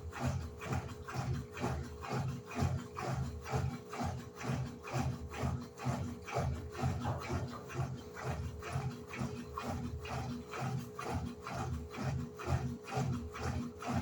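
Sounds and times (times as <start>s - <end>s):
washing machine agitating: 0.0s - 14.0s.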